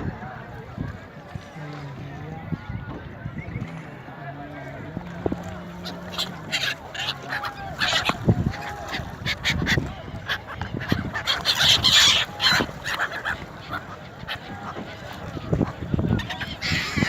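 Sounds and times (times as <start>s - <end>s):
gulls calling: 3.2s - 17.0s.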